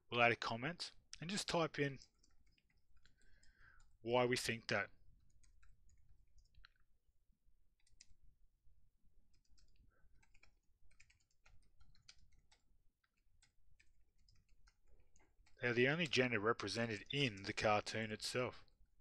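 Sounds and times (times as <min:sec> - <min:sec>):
faint keyboard typing: 0:01.1 - 0:07.0, 0:07.7 - 0:08.4, 0:09.2 - 0:18.9.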